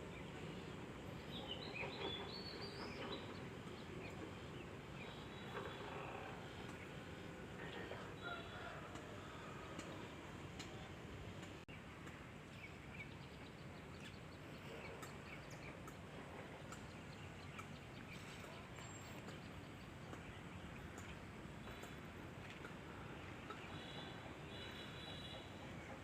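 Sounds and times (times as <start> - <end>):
birds chirping: 0.0 - 26.0
faint steady countryside hiss: 0.0 - 26.0.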